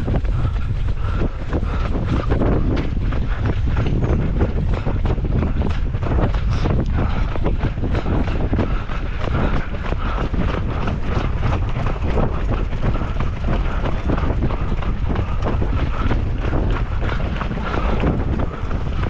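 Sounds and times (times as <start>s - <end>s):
running footsteps: 0.0s - 19.0s
wind rumbling on microphone: 0.0s - 19.0s.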